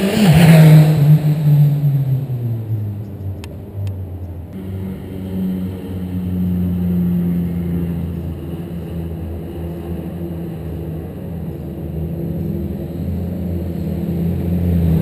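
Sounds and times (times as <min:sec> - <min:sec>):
distant motorcycle engine running: 0:00.0 - 0:15.0.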